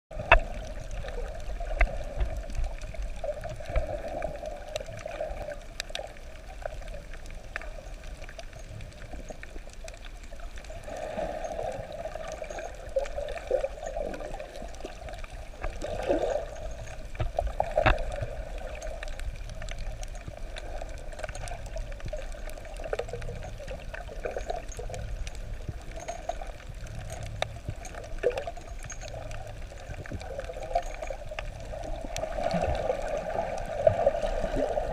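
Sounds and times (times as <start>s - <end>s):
muffled underwater water wash: 0.1s - 34.9s.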